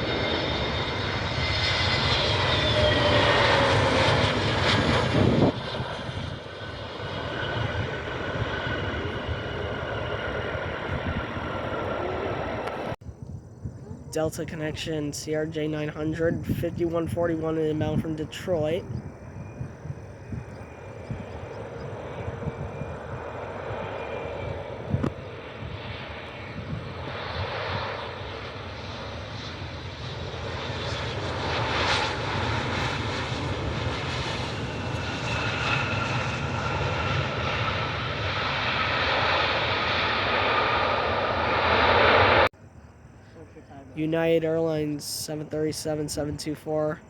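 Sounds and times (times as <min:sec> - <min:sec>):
jet engine rushing with whine: 0:00.0 - 0:47.0.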